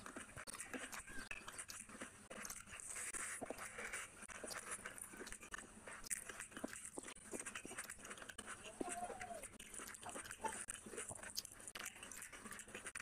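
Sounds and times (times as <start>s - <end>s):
person chewing and mouth smacks: 0.0s - 13.0s
rice squishing in fingers: 0.0s - 13.0s.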